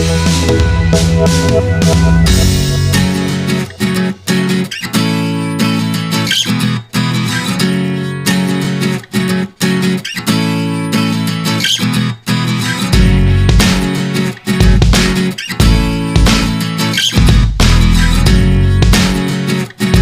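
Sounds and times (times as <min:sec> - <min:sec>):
strummed acoustic guitar music: 0:00.0 - 0:20.0.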